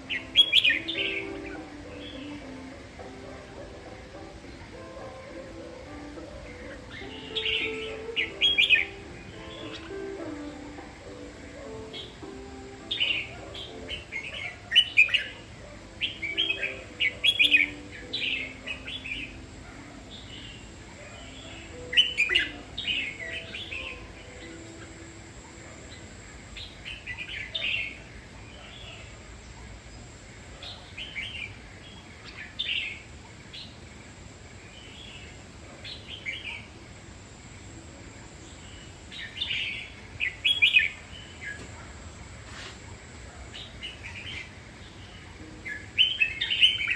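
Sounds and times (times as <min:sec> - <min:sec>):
bird singing: 0:00.0 - 0:42.3, 0:43.0 - 0:46.9.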